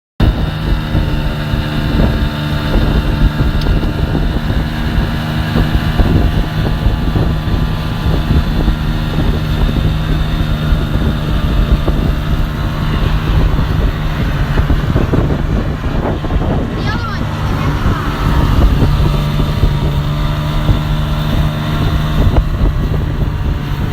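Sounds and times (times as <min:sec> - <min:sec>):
engine running steadily: 0:00.2 - 0:23.9
wind buffeting microphone: 0:00.2 - 0:23.9.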